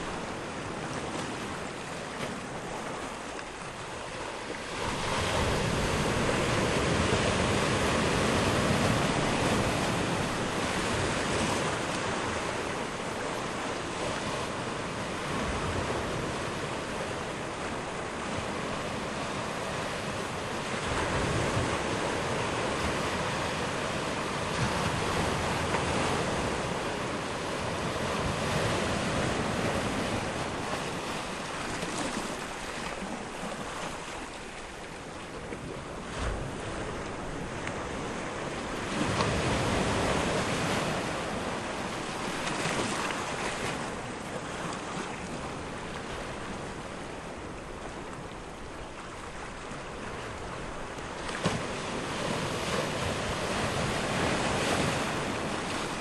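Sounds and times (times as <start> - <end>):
waves washing ashore: 0.0 - 56.0.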